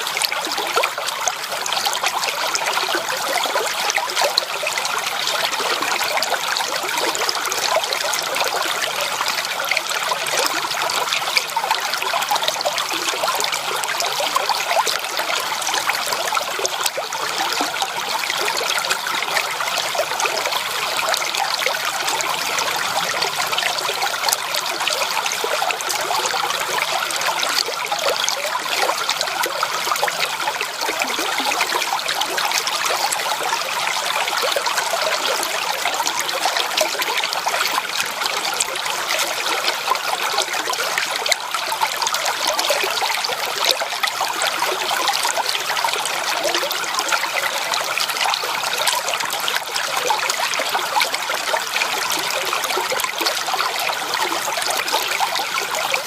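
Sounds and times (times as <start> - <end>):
creek water babbling over stones: 0.0 - 56.0.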